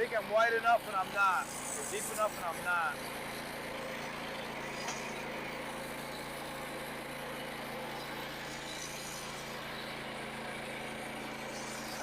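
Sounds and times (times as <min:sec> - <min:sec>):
small gasoline engine humming: 0:00.0 - 0:12.0.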